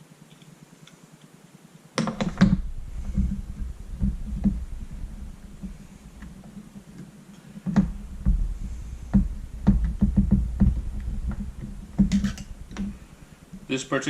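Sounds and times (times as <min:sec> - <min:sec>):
low handling rumble: 0:02.1 - 0:14.0.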